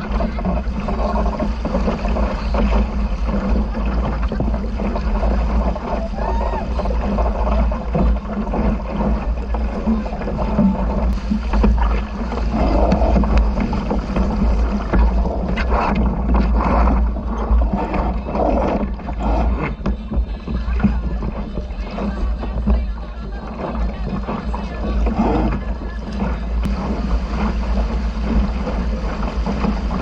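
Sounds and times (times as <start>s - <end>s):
low boat rumble: 0.0s - 30.0s
rushing water: 0.0s - 30.0s
wind noise: 0.0s - 30.0s.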